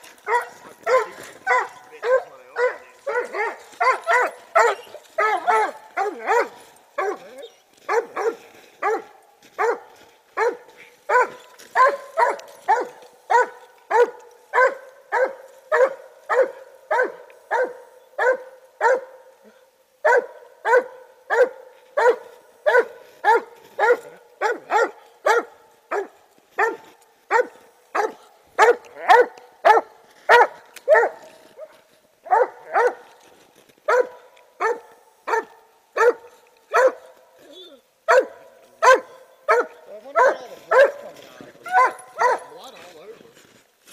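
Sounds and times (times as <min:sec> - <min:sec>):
hound barking: 0:00.1 - 0:33.2, 0:33.9 - 0:37.4, 0:38.0 - 0:42.7.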